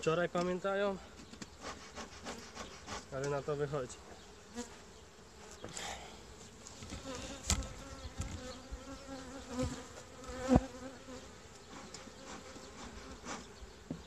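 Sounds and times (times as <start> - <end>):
honeybees buzzing: 0.8 - 14.0.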